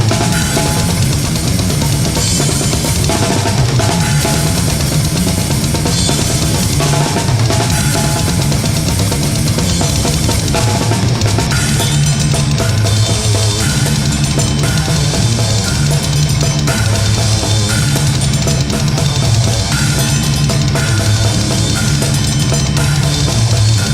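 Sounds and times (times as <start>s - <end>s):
doom metal music: 0.0s - 23.9s
drum kit: 0.0s - 23.9s.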